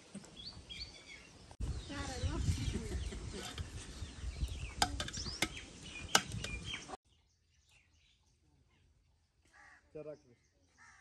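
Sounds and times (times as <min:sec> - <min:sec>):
outdoor rural ambience: 0:00.0 - 0:11.0
small birds chirping: 0:00.0 - 0:11.0.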